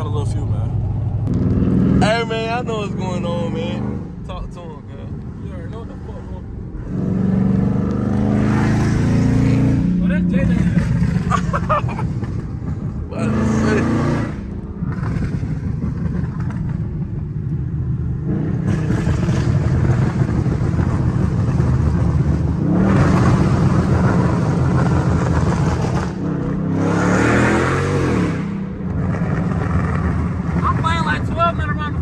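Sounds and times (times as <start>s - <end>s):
car exhaust rumbling: 0.0s - 32.0s.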